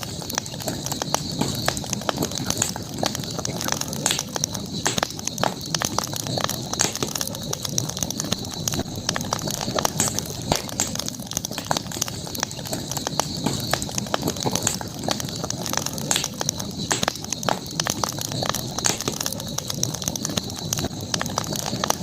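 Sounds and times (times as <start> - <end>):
background hiss: 0.0 - 22.0
campfire crackling and popping: 0.0 - 22.0.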